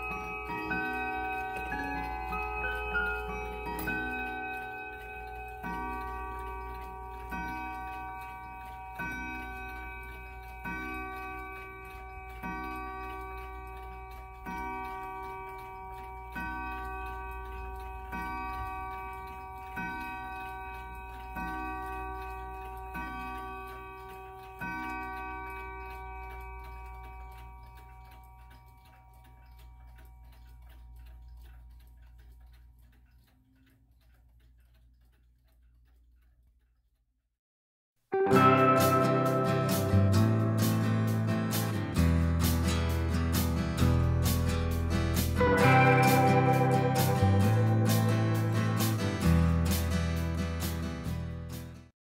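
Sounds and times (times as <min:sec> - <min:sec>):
clock chime strokes: 0:00.0 - 0:31.8, 0:38.2 - 0:50.8
clock ticking: 0:00.0 - 0:37.1, 0:38.2 - 0:51.9.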